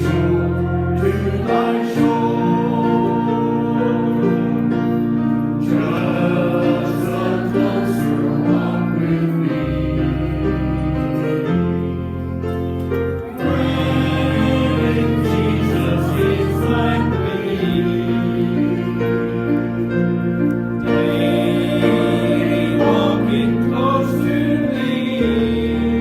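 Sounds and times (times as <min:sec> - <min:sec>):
choir singing a hymn: 0:00.0 - 0:26.0
instrumental accompaniment: 0:00.0 - 0:26.0.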